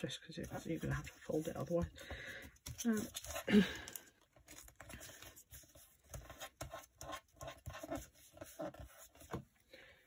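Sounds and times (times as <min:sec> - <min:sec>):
paper pages rustling and scraping: 0:00.4 - 0:09.5.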